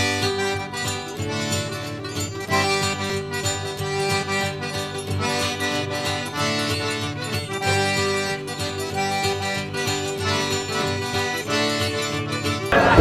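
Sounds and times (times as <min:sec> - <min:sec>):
accordion: 0:00.0 - 0:13.0
fiddle: 0:00.0 - 0:13.0
upbeat cajun-style music: 0:00.0 - 0:13.0.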